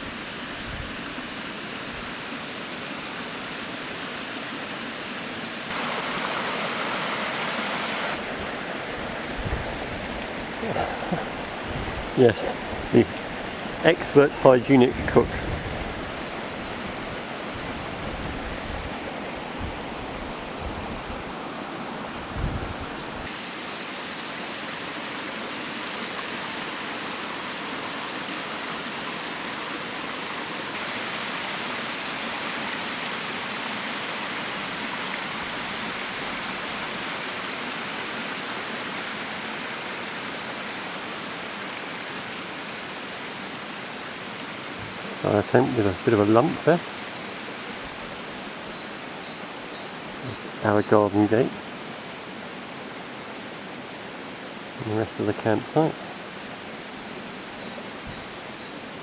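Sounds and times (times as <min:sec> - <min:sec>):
stream cascading over rocks: 0:00.0 - 0:59.0.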